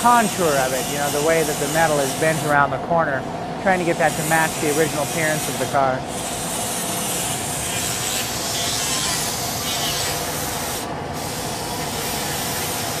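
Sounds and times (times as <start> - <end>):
grinder disc grinding steel: 0.0 - 2.7, 3.7 - 13.0.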